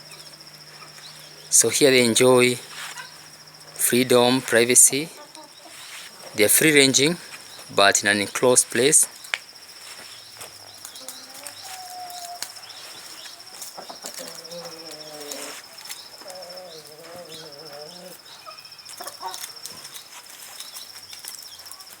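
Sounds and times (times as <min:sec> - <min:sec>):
hens calling softly: 0:00.0 - 0:09.2, 0:09.8 - 0:19.5
high-pitched insect trill: 0:00.0 - 0:22.0.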